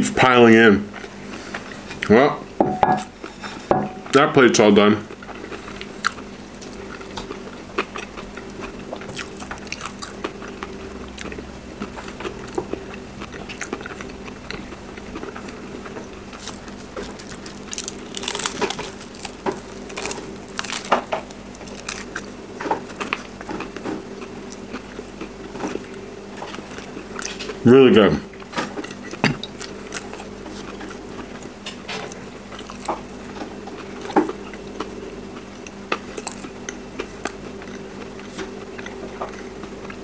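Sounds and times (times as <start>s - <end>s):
person chewing crispy chicken: 5.1s - 27.6s, 28.3s - 40.0s.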